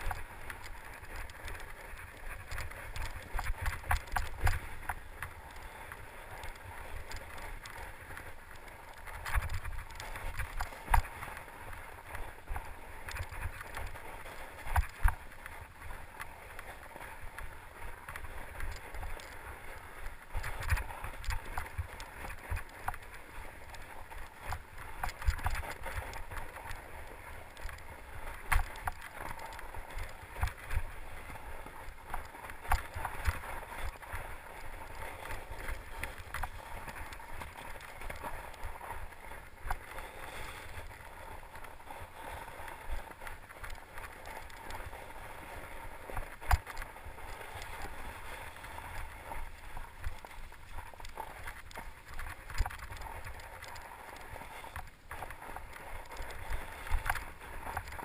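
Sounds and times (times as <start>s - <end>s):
bike tyres crunching snow: 0.0s - 58.0s.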